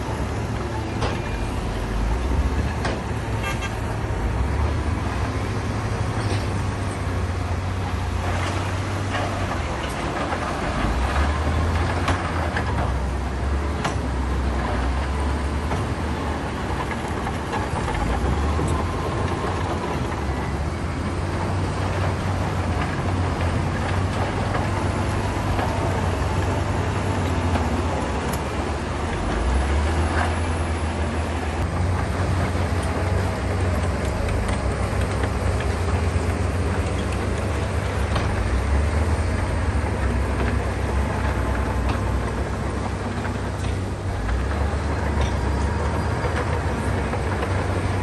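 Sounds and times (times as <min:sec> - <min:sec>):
heavy diesel machinery engine drone: 0:00.0 - 0:48.0.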